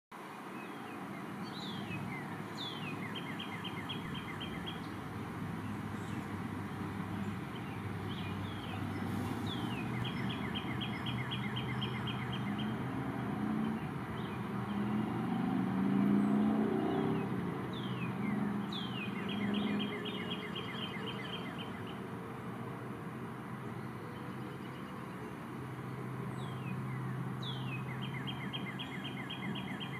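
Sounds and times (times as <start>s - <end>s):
songbird singing: 0.2s - 29.9s.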